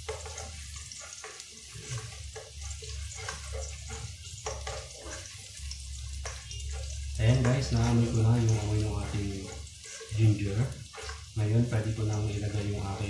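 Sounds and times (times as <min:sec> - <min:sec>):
ginger sizzling in hot oil: 0:00.0 - 0:13.0
spatula stirring and scraping: 0:00.0 - 0:13.0.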